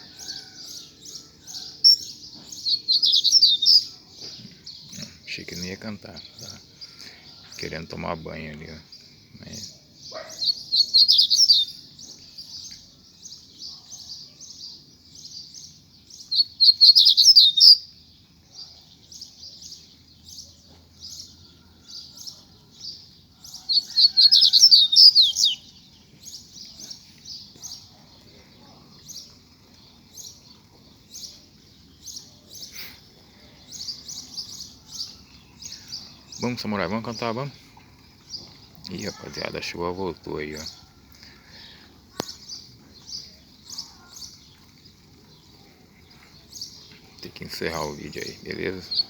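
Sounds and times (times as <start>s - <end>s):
bird chirping: 0.0s - 49.0s
rapid bird song: 0.0s - 49.0s.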